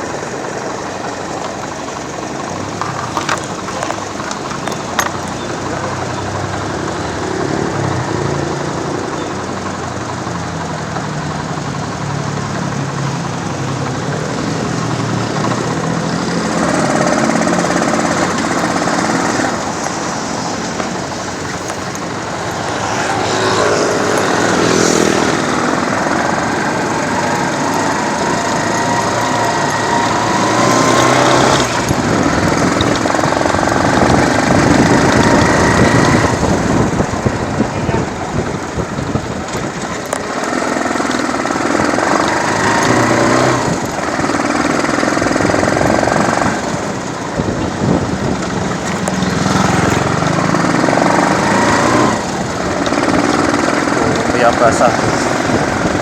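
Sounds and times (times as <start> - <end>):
passing traffic sounds: 0.0 - 56.0
road and wind noise: 0.0 - 56.0
vehicle engine running: 0.0 - 56.0.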